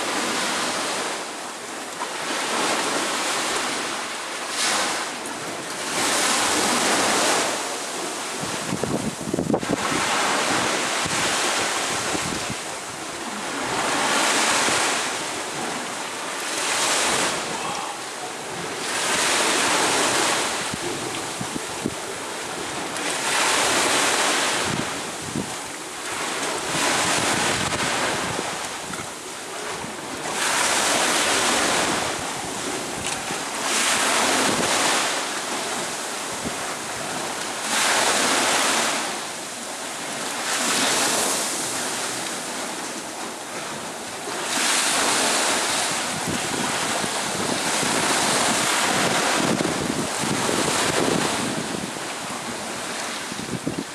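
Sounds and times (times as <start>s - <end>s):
waves breaking on beach: 0.0s - 53.9s.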